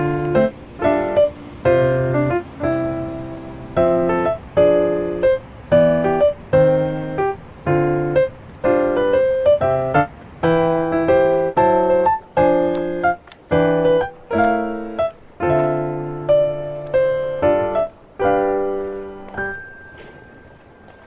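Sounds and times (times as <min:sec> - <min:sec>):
piano playing repeated chords: 0:00.0 - 0:21.0.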